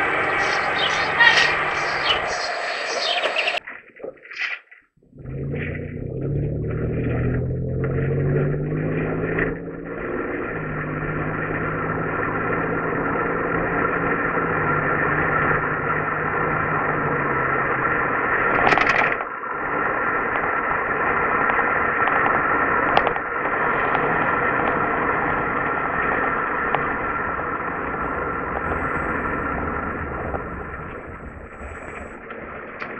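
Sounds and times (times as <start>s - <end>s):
car engine starting and idling: 0.0s - 3.2s, 5.0s - 32.9s.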